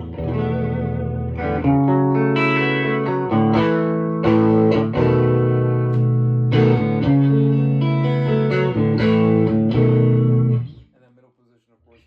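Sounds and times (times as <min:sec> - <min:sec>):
electric guitar chords ringing: 0:00.0 - 0:10.8.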